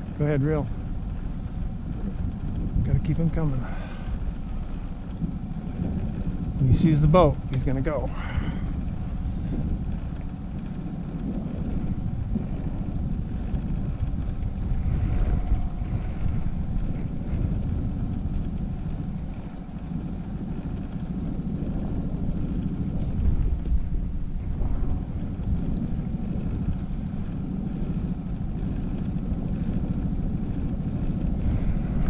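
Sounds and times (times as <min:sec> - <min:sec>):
faint constant hum: 0:00.0 - 0:32.0
outboard motor low drone: 0:00.0 - 0:32.0.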